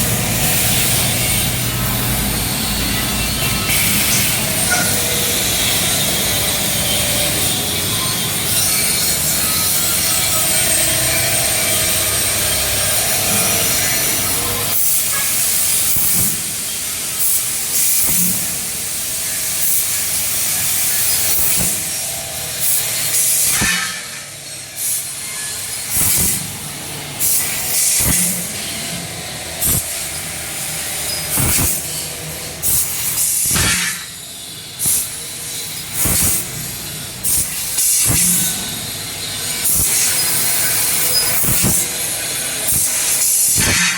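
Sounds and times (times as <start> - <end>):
laser cutting machine hissing: 0.0 - 43.9.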